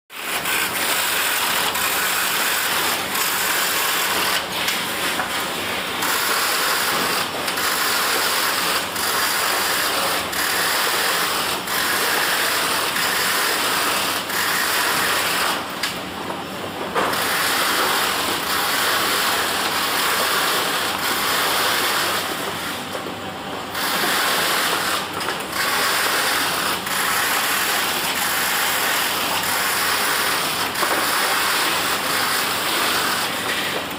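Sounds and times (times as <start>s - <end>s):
carton sealing machine clatter: 0.2s - 33.9s.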